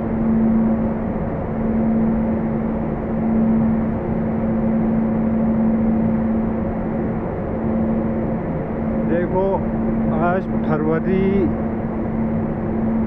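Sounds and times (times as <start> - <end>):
machine humming tone: 0.0 - 13.0.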